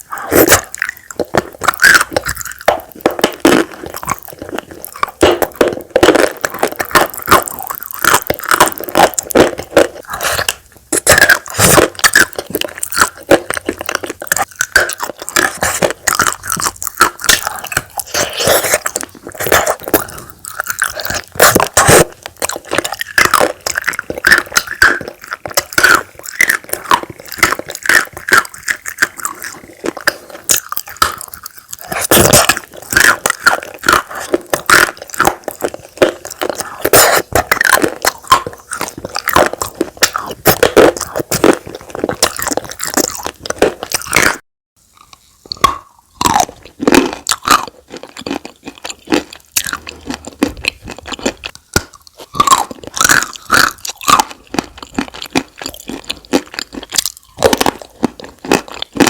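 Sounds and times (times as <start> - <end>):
chewing chalk crunching: 0.0 - 59.0.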